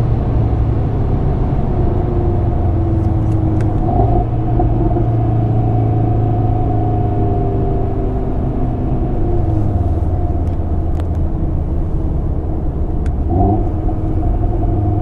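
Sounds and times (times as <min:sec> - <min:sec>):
car engine cruising: 0:00.0 - 0:15.0.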